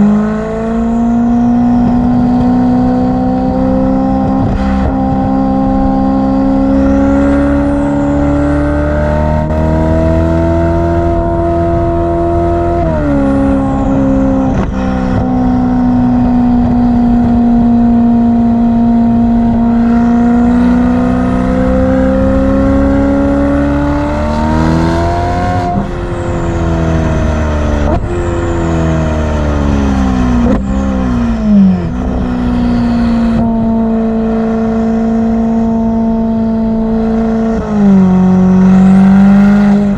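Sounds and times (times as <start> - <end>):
car engine revving loudly: 0.0 - 39.9.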